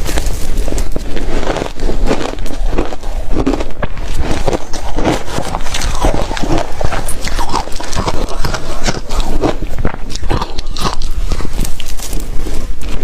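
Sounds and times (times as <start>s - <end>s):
ice cubes crunched between teeth: 0.7s - 13.0s.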